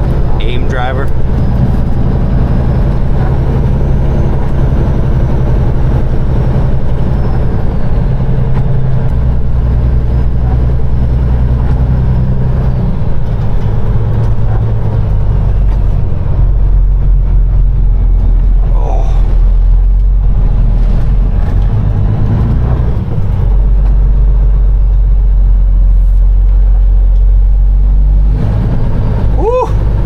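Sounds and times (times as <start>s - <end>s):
truck diesel engine climbing: 0.0s - 30.0s.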